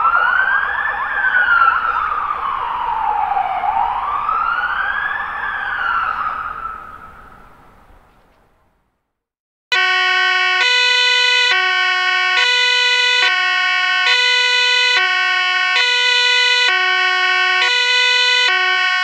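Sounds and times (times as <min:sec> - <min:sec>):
two-tone ambulance siren: 0:00.0 - 0:07.6, 0:09.7 - 0:19.0.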